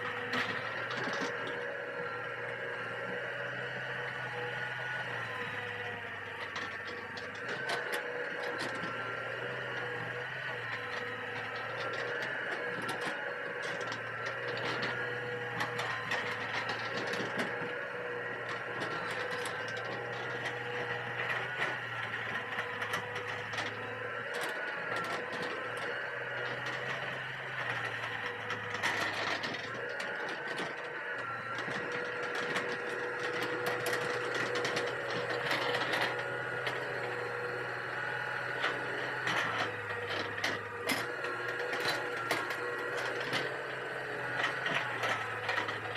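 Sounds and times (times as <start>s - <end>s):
excavator engine and hydraulic whine: 0.0s - 45.9s.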